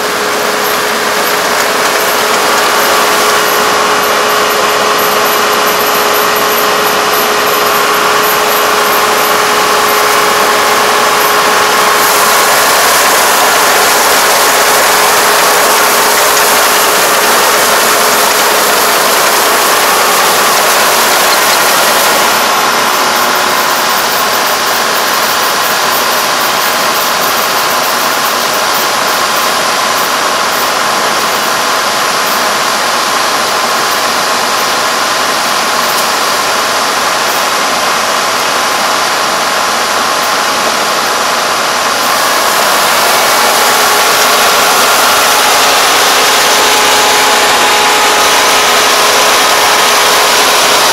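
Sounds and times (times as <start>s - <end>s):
combine harvester droning: 0.0s - 50.9s.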